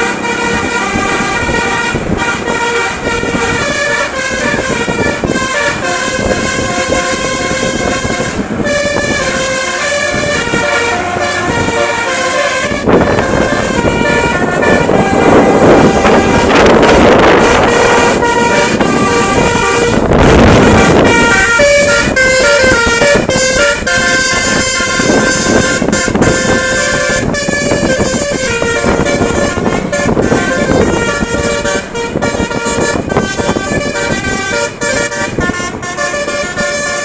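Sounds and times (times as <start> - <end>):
bus melody horn: 0.0 - 37.0
loud rushing noise: 0.0 - 37.0.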